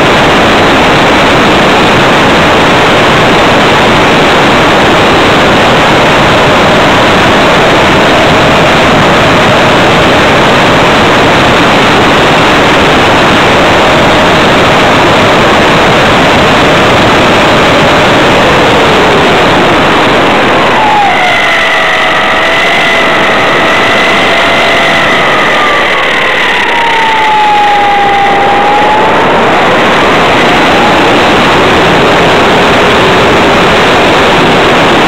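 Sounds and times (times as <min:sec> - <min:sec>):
rushing air: 0:00.0 - 0:35.0
faint whine sliding down: 0:00.5 - 0:35.0.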